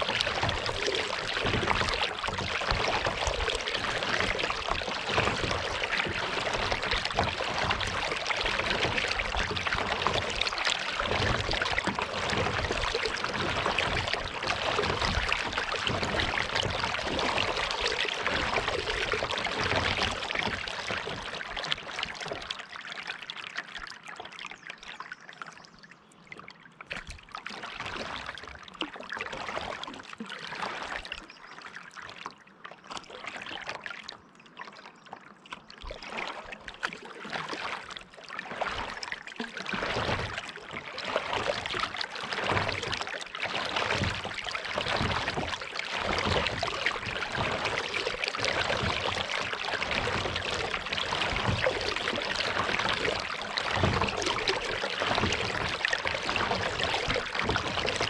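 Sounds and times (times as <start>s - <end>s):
paddle splashing in water: 0.0s - 25.7s, 26.3s - 58.0s.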